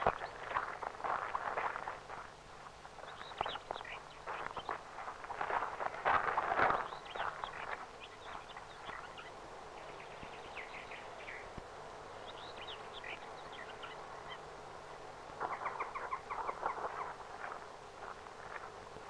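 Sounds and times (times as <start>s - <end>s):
footsteps crunching on path: 0.0s - 11.6s, 15.3s - 19.0s
small birds chirping: 0.0s - 14.6s, 15.3s - 18.7s
faint steady hum: 0.0s - 19.0s.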